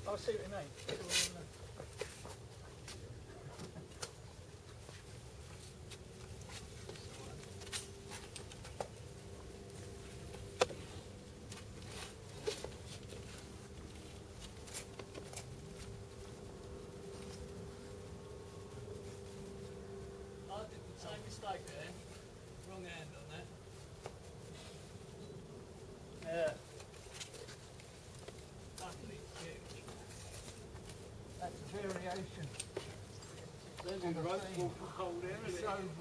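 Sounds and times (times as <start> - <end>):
faint steady hum: 0.0 - 36.0
small clicks and scuffs: 0.5 - 20.0, 23.6 - 25.4, 26.1 - 35.6.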